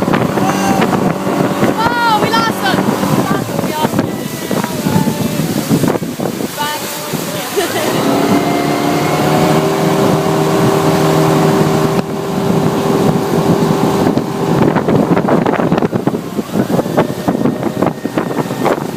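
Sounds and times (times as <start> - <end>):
motorboat engine running: 0.0 - 18.9
wind noise on microphone: 0.0 - 18.9.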